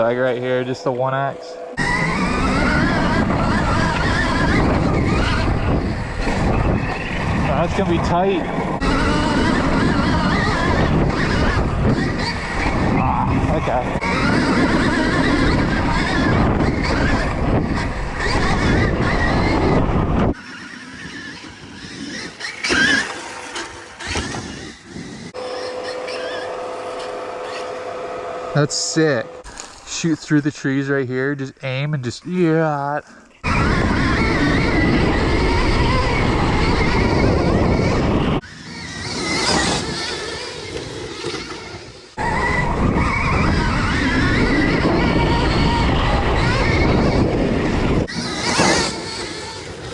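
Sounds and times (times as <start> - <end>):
dirt bike motor whine: 0.0 - 49.9
wind: 0.0 - 49.9
heavy rumble: 1.7 - 29.9, 33.4 - 49.9.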